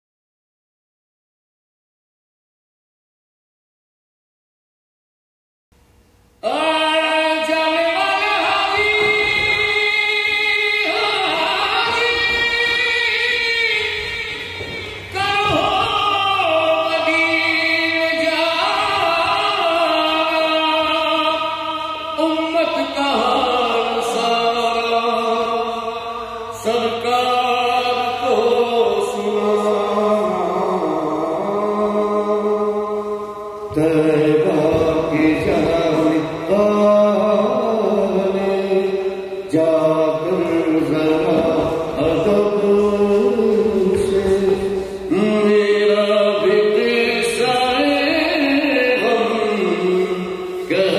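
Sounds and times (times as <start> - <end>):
person singing slow song: 6.4 - 50.9.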